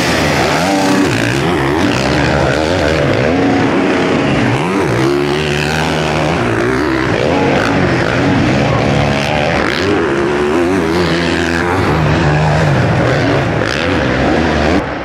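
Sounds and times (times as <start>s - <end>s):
motocross bikes racing: 0.0s - 15.0s.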